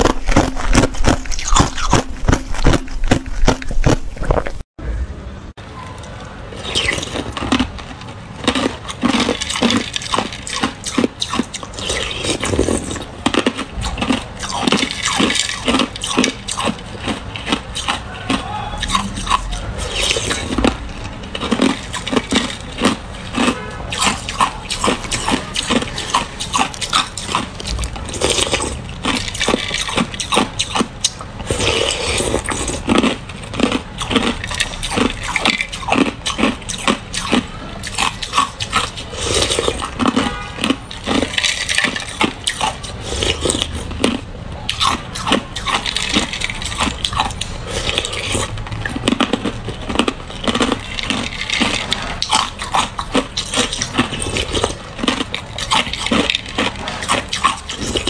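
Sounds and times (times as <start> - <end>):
ice being chewed: 0.0 - 4.6, 6.0 - 58.0.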